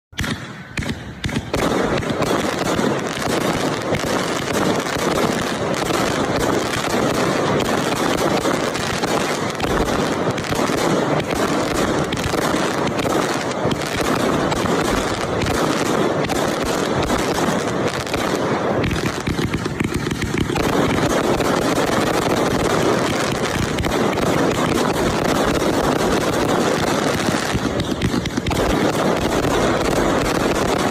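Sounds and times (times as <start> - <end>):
firework cake barrage: 0.1 - 30.9.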